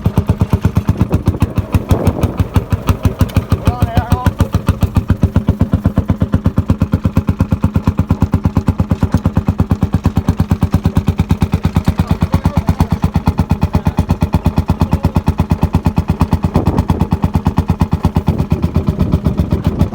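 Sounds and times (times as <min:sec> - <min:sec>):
tractor engine exhaust popping: 0:00.0 - 0:19.9.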